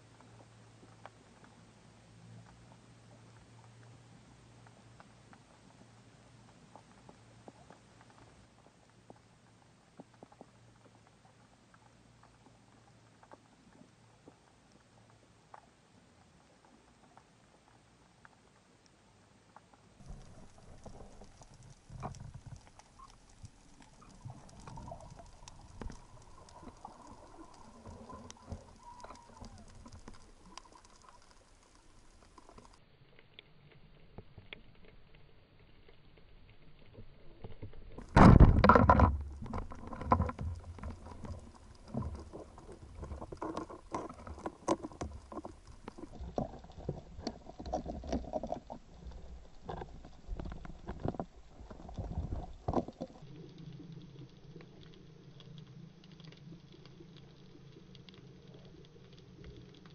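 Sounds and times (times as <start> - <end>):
irregular underwater clicks and knocks: 0.0 - 59.9
underwater crackle of small clicks: 0.0 - 59.9.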